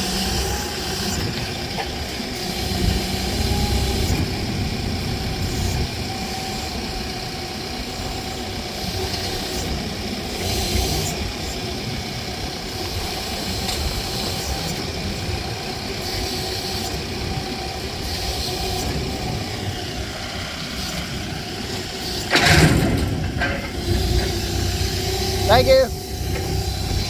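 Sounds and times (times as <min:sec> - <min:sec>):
engine idling with rumble: 0:00.0 - 0:27.0.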